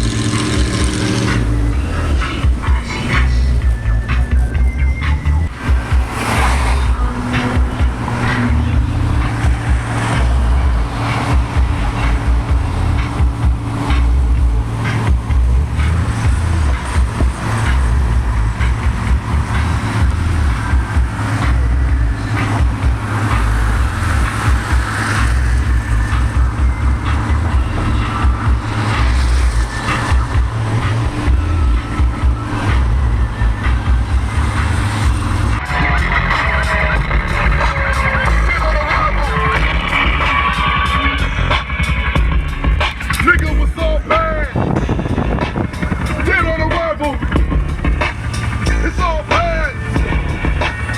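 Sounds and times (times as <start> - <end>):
low rumble: 0.0 - 50.9
road and wind noise: 0.0 - 50.9.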